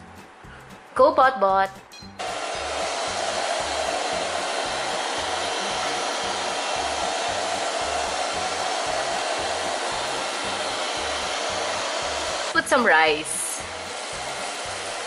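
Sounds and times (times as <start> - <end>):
robotic vacuum cleaner whirring: 2.2 - 15.0.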